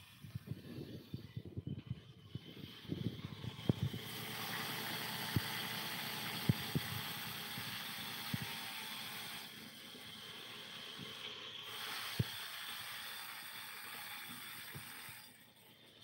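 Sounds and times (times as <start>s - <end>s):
band saw blade cutting wood: 2.4s - 15.6s.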